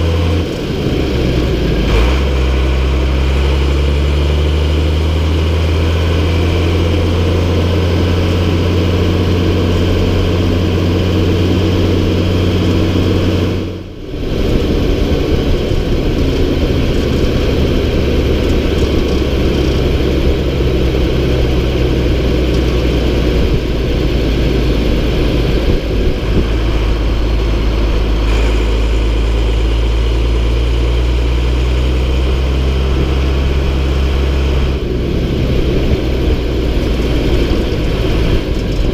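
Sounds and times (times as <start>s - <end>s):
loud diesel engine running: 0.0s - 38.9s.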